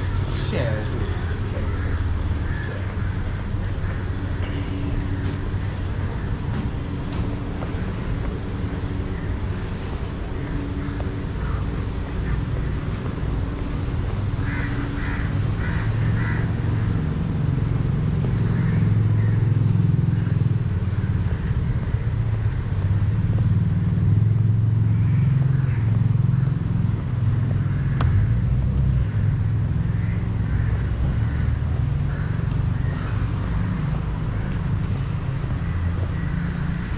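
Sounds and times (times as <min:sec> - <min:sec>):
low city rumble: 0:00.0 - 0:36.9.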